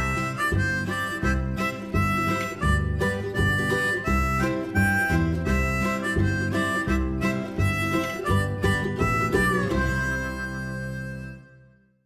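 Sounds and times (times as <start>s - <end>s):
guitar: 0.0s - 12.0s
harmonica melody: 0.0s - 12.0s.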